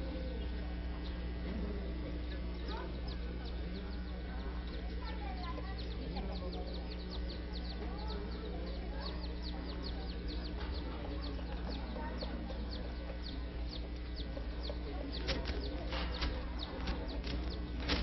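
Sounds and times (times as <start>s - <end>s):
steady low hum: 0.0s - 18.0s
bird chirping: 2.0s - 18.0s.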